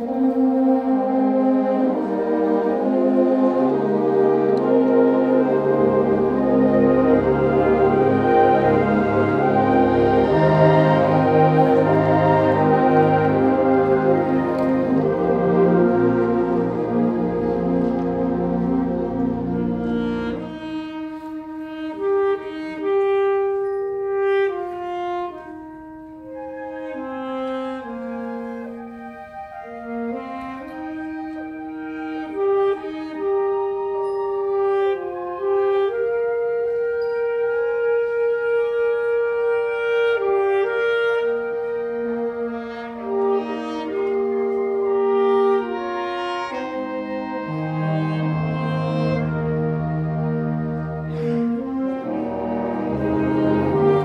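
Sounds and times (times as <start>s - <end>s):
concert band playing: 0.0s - 54.0s
woodwinds holding notes: 0.0s - 54.0s.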